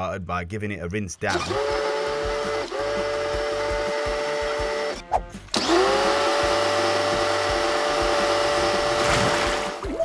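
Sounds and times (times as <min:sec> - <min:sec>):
pressure washer motor whine: 0:01.2 - 0:09.8.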